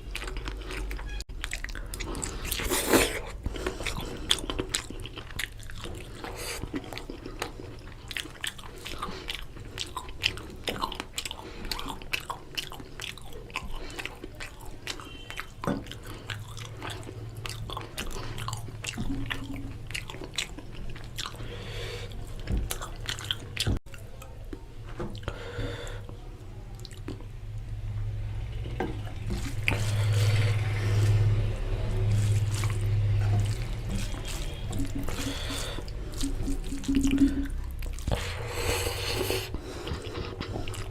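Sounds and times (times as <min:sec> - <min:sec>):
person chewing with wet clicks: 0:00.0 - 0:27.8, 0:28.8 - 0:40.9.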